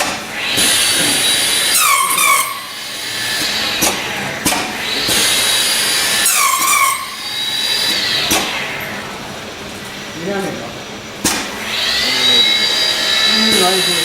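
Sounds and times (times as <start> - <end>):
high whine and hiss: 0.0 - 14.0
machine motors whining: 0.0 - 14.0.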